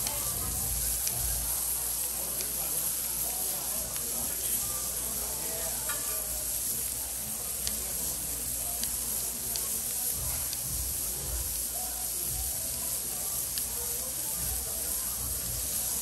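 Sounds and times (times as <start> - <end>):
meat sizzling on grill pan: 0.0 - 16.0.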